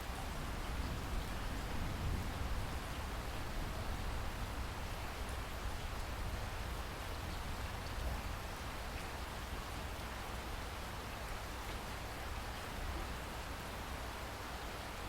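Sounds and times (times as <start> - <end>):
rain on foliage: 0.0 - 15.0.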